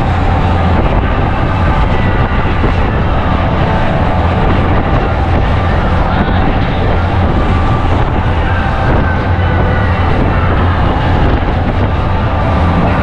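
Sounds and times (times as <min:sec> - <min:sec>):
boat engine drone: 0:00.0 - 0:13.0
rushing water: 0:00.0 - 0:13.0.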